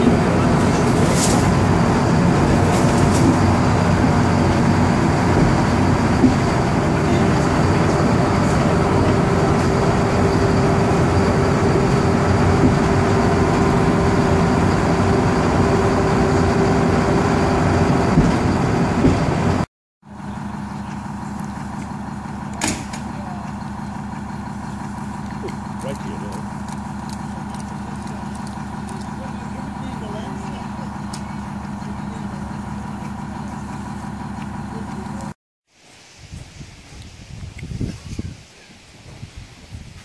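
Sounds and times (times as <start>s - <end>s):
diesel engine idling: 0.0s - 35.4s
railcar running on rails: 0.0s - 35.4s.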